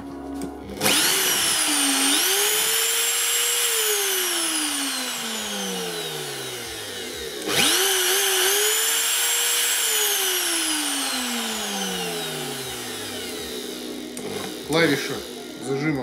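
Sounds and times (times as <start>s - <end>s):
router motor whine: 0.6s - 16.0s.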